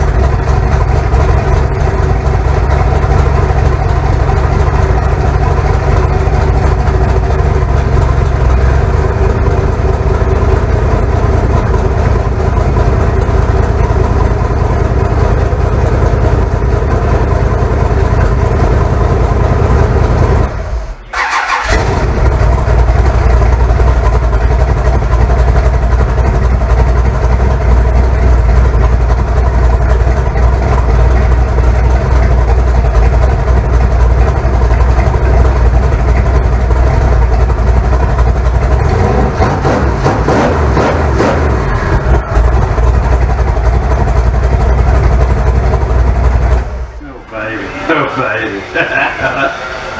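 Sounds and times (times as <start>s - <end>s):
engine running loudly: 0.0s - 20.6s, 21.2s - 49.9s.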